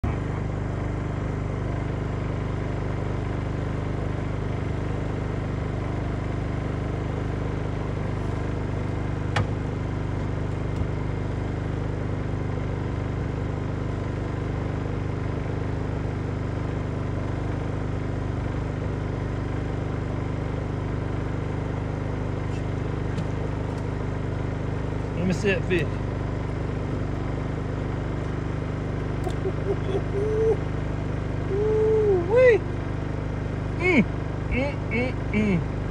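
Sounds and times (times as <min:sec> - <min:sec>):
boat motor idling: 0:00.0 - 0:35.9.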